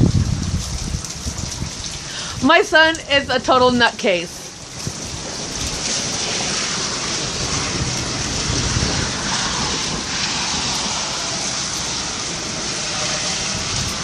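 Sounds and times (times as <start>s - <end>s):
heavy rain falling: 0.0s - 14.0s
wind rumble on microphone: 0.0s - 14.0s.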